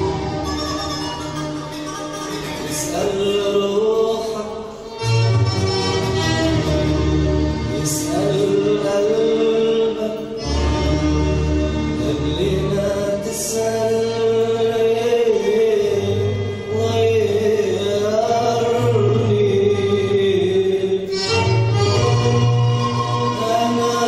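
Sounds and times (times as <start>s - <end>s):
song over loudspeaker: 0.0s - 1.6s, 2.2s - 24.0s.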